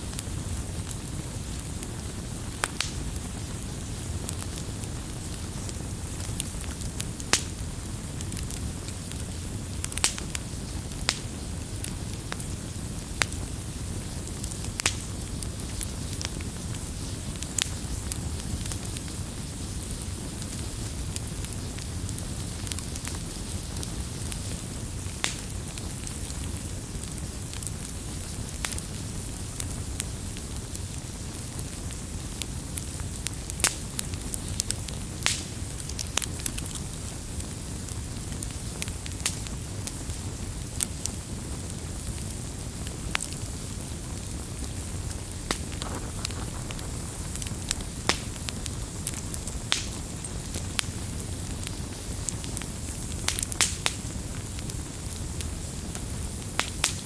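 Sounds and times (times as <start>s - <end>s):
firewood burning and crackling: 0.0s - 57.0s.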